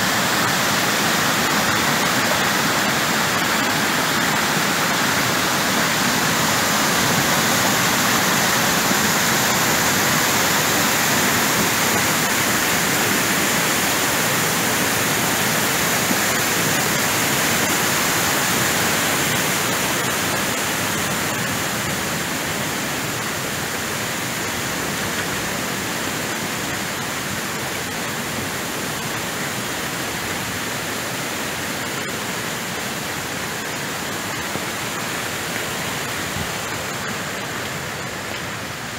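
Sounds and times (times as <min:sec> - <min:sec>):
rainwater runoff rushing: 0:00.0 - 0:38.9.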